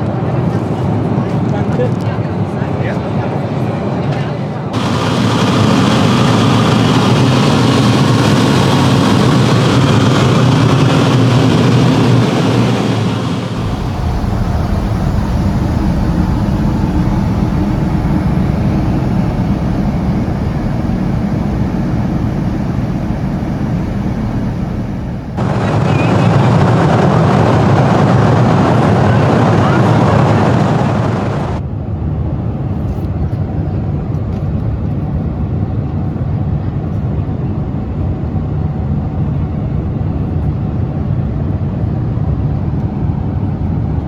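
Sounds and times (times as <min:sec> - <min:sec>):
airplane cabin engine roar: 0:00.0 - 0:44.0.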